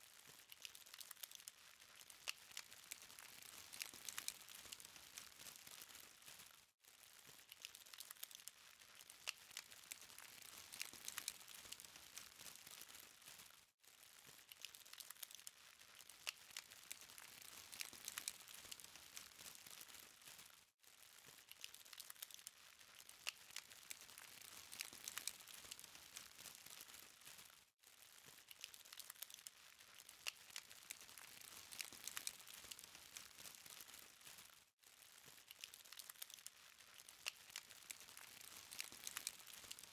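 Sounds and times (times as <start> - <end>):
charcoal fire crackling: 0.2 - 39.9.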